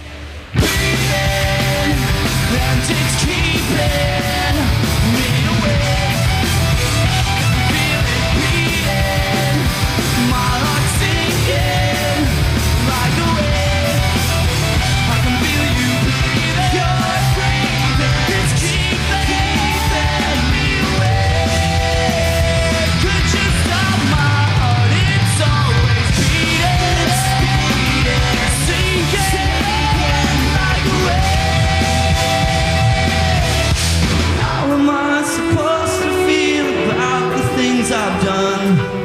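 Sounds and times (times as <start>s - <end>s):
bass guitar: 0.0s - 39.0s
distorted electric guitars: 0.0s - 39.0s
driving drums: 0.0s - 39.0s
lead vocal singing: 0.6s - 39.0s.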